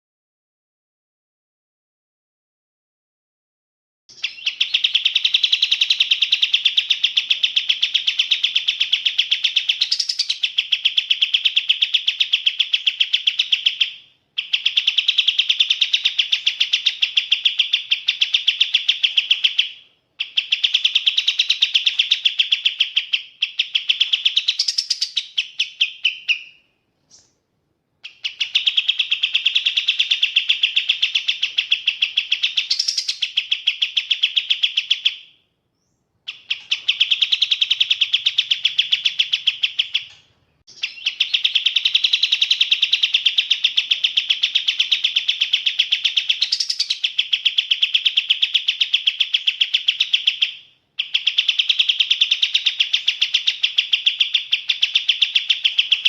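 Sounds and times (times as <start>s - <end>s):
songbird singing fast high notes: 4.1s - 27.3s, 28.0s - 35.2s, 36.3s - 56.0s.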